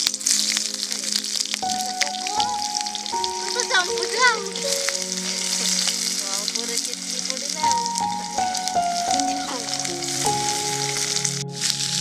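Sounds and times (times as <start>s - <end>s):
background music of held notes: 0.0s - 12.0s
onions sizzling in hot oil: 0.0s - 12.0s.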